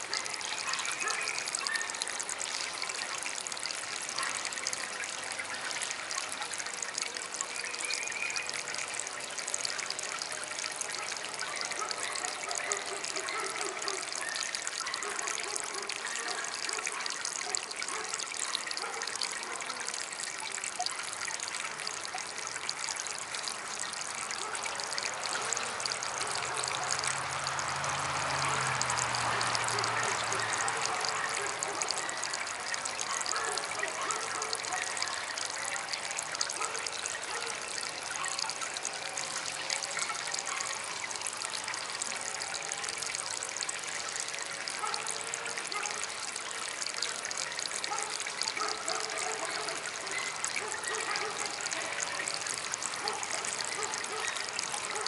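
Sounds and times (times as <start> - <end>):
water fountain trickling: 0.0 - 55.0.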